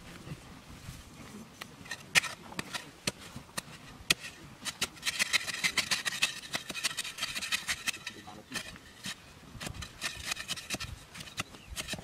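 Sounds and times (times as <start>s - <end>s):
digging bar knocking in soil: 1.9s - 12.0s.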